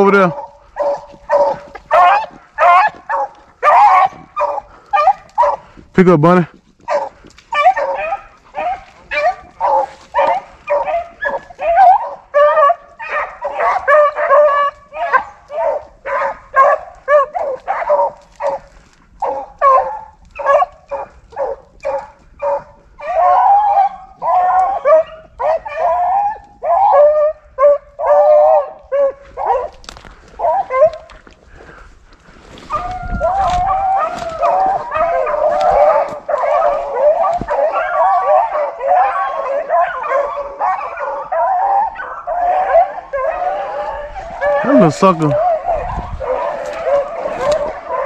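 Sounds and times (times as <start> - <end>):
hounds baying: 0.0 - 48.0.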